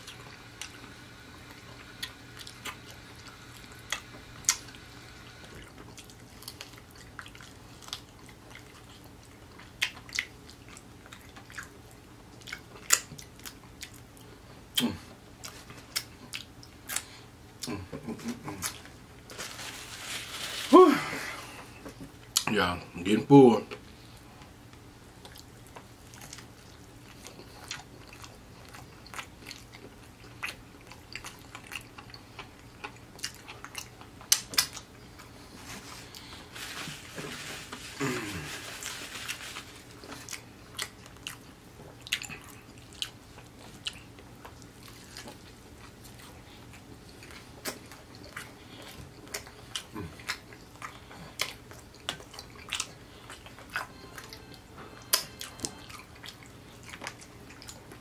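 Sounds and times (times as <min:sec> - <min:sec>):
person chewing a biscuit: 0:00.0 - 0:20.5, 0:23.8 - 0:58.0.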